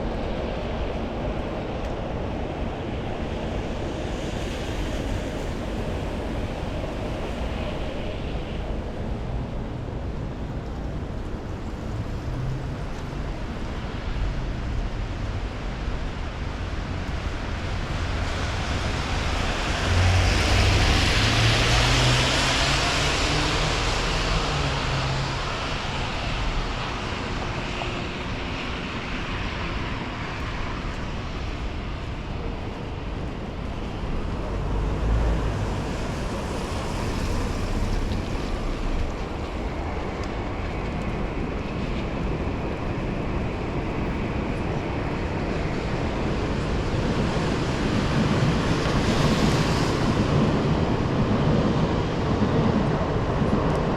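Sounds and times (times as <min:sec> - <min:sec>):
steady rain: 0:00.0 - 0:53.9
street noise: 0:00.0 - 0:53.9
wind buffeting microphone: 0:00.0 - 0:53.9.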